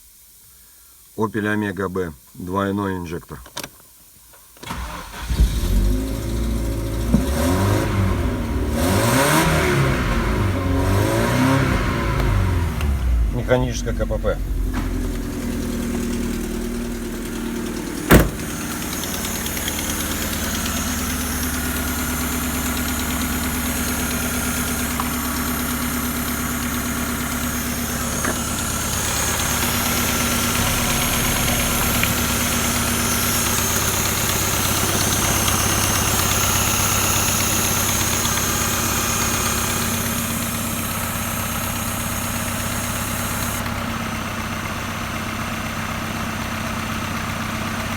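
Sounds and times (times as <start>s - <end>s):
car engine idling: 4.7s - 47.9s.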